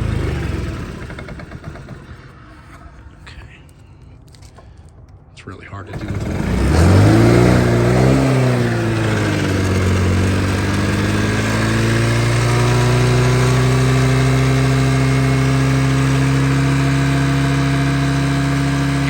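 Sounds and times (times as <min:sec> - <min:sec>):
scooter engine revving high: 0:00.0 - 0:02.6, 0:05.9 - 0:19.0.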